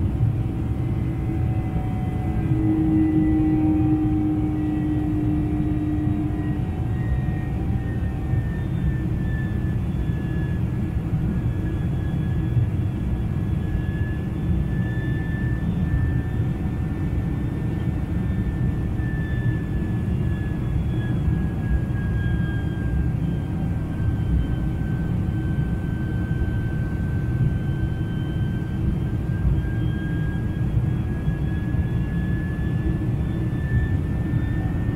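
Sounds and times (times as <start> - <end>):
high jet engine whine: 0.0 - 34.9
jet engine rumble in cabin: 0.0 - 34.9
low hum: 0.0 - 34.9.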